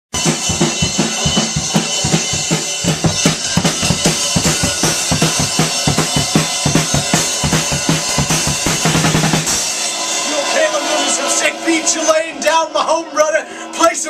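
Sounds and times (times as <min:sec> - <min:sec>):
drum kit playing fast: 0:00.1 - 0:12.1.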